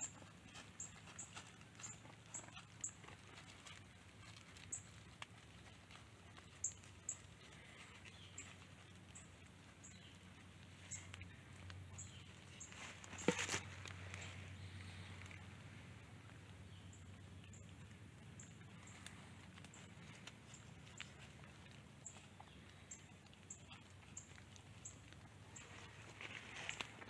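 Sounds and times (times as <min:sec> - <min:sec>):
dry leaves rustling underfoot: 0:00.1 - 0:27.0.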